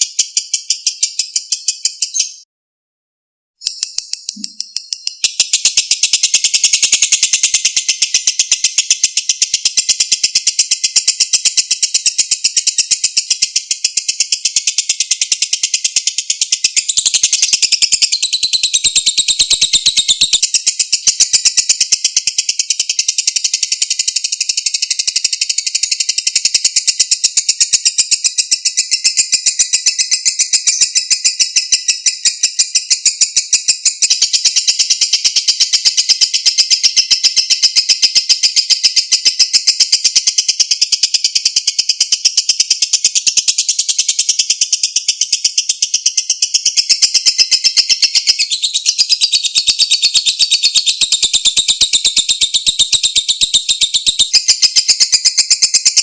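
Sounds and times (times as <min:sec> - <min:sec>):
lovebird chattering trill: 0:00.0 - 0:02.4, 0:03.6 - 0:56.0.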